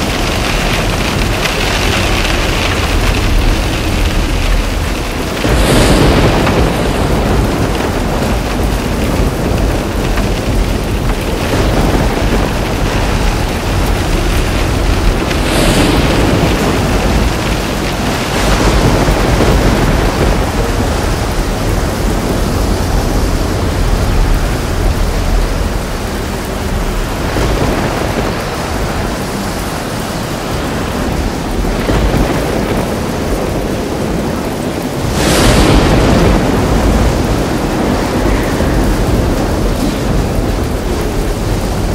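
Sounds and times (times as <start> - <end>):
low rumble of thunder: 0.0 - 41.9
steady rain: 0.0 - 41.9
thunder claps: 0.0 - 41.9.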